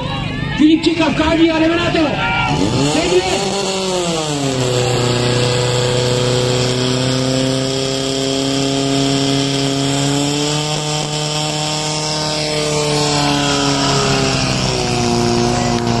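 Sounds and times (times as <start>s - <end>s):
pump engine running at high pitch: 0.0s - 16.0s.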